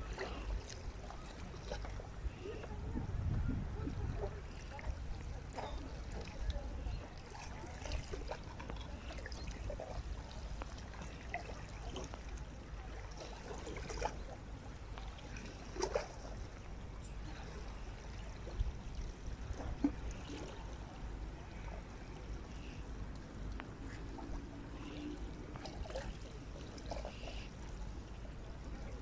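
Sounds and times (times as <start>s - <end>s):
low steady rumble: 0.0s - 29.0s
water lapping and trickling: 0.0s - 29.0s.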